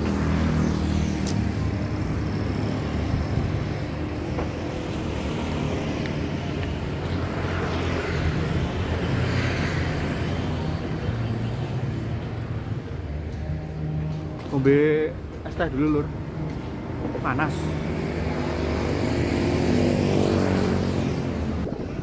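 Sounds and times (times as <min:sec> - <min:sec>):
motorbikes and cars passing: 0:00.0 - 0:22.0.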